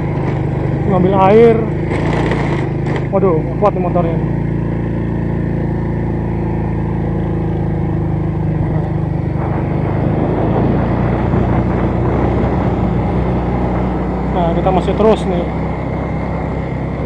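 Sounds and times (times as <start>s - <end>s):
motorcycle engine running under load: 0.0s - 17.0s
rough noisy rumble: 0.0s - 17.0s.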